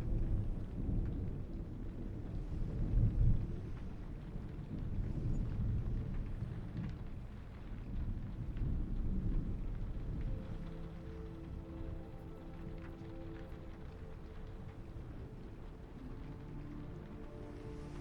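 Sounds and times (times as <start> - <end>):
low rolling thunder: 0.0 - 18.0
soft sustained music tones: 0.0 - 18.0
steady rain: 0.0 - 18.0.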